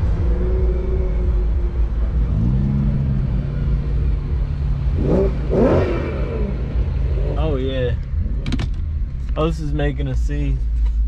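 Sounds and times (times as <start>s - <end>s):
car engine: 0.0s - 11.0s
road rumble: 0.0s - 11.0s.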